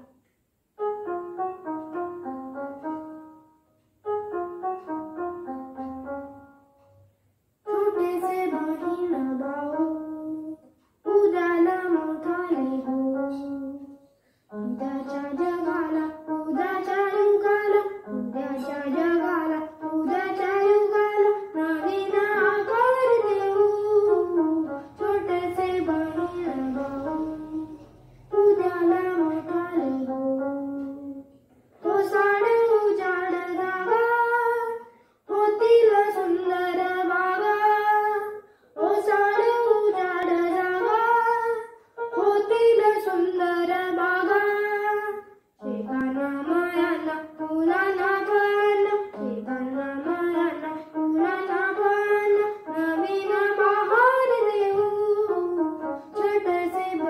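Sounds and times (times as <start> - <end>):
electronic keyboard: 0.8 - 57.0
boy singing: 7.7 - 13.9, 14.5 - 57.0.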